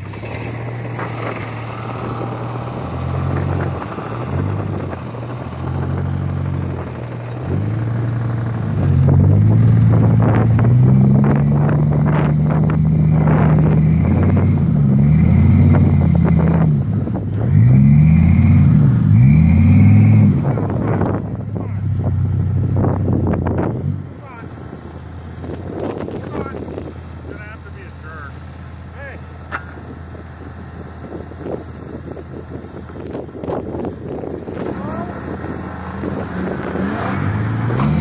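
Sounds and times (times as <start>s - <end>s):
truck engines revving: 0.0s - 38.0s.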